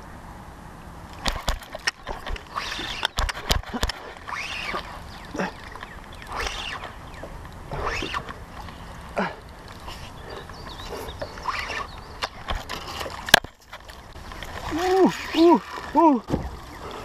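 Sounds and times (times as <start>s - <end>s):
paddle splashing in water: 1.2s - 17.0s.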